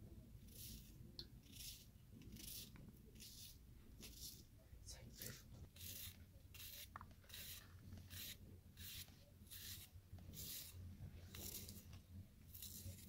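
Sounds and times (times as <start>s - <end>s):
knife slicing onion: 0.4s - 4.4s, 5.7s - 11.8s, 12.5s - 13.0s.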